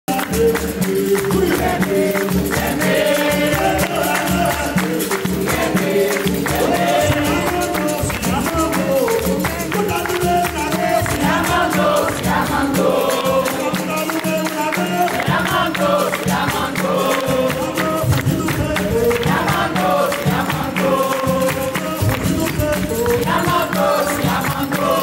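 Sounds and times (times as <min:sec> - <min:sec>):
berimbaus and percussion rhythm: 0:00.1 - 0:25.0
voices singing together: 0:00.1 - 0:25.0.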